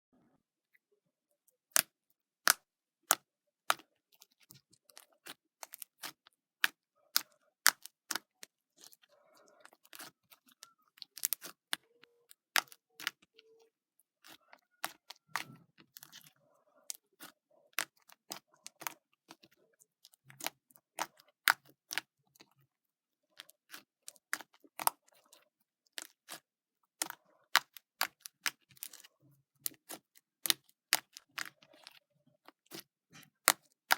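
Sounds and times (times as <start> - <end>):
slime squished and stretched: 1.7 - 22.6, 23.3 - 33.9.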